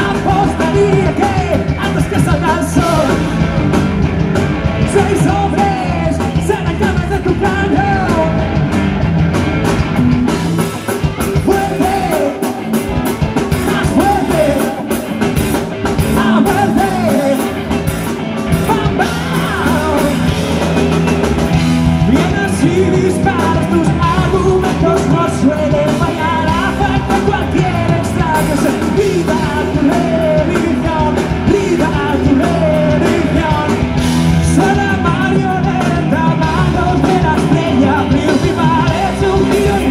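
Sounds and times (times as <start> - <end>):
bass guitar: 0.0 - 39.9
drums: 0.0 - 39.9
electric guitars: 0.0 - 39.9
lead singer: 0.0 - 39.9.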